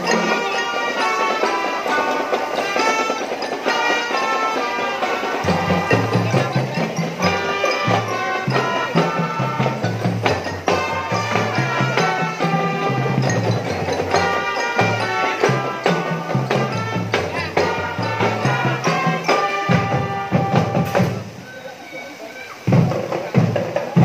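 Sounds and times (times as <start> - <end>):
drum band playing: 0.0 - 24.0.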